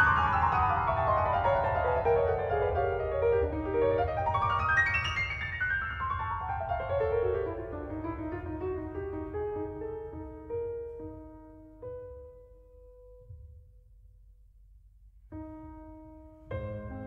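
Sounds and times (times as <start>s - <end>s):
piano music: 0.0s - 13.8s, 15.3s - 17.0s.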